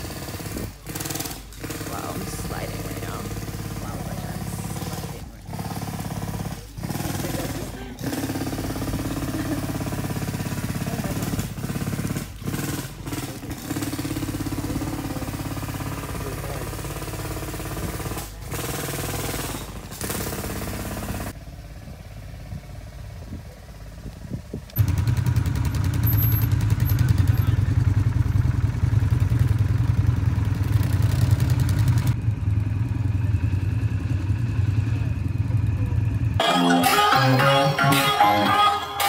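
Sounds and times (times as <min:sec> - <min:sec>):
atv engine idling: 0:00.0 - 0:36.4
atv engines running: 0:00.0 - 0:39.0.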